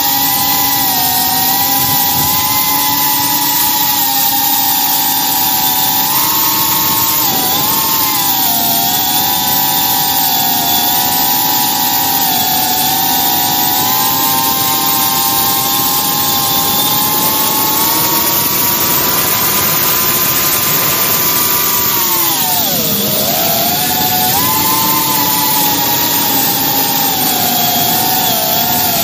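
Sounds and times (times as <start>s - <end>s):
drone propellers whining: 0.0s - 29.0s.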